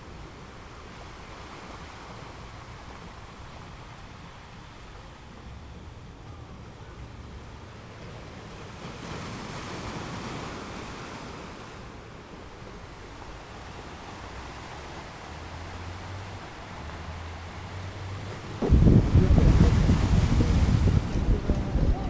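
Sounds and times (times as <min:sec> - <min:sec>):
sea water washing and surging: 0:00.0 - 0:22.0.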